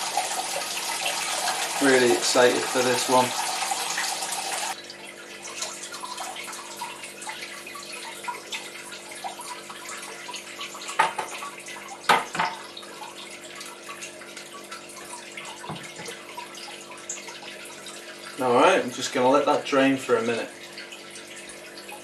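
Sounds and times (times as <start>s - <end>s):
liquid trickling and dripping: 0.0s - 22.0s.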